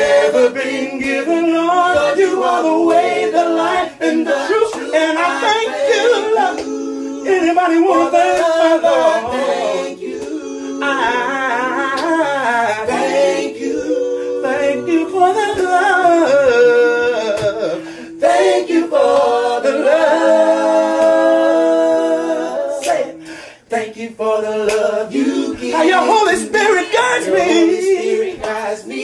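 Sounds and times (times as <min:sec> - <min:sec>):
group singing a cappella: 0:00.0 - 0:29.0.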